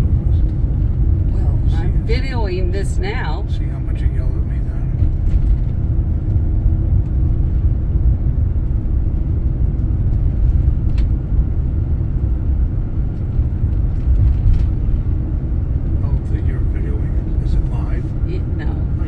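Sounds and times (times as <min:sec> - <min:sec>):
engine and road rumble: 0:00.0 - 0:19.0.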